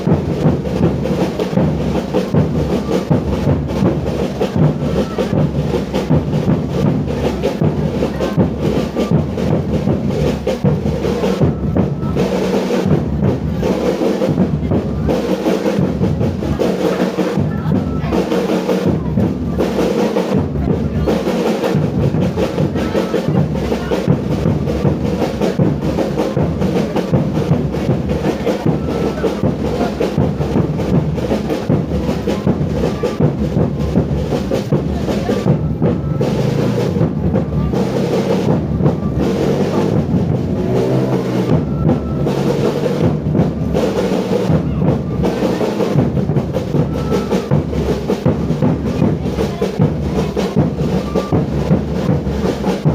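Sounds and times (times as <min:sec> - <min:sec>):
music with drums: 0:00.0 - 0:52.9.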